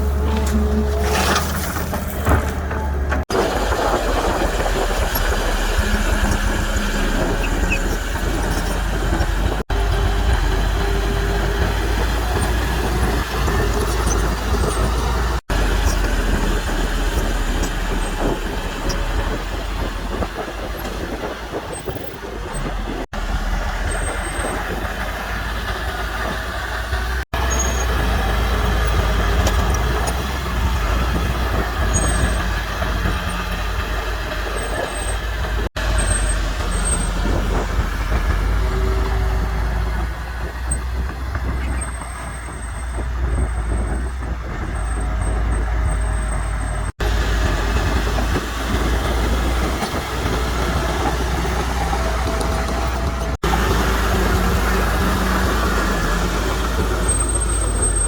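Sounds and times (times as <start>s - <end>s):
diesel machinery rumbling: 0.0s - 58.0s.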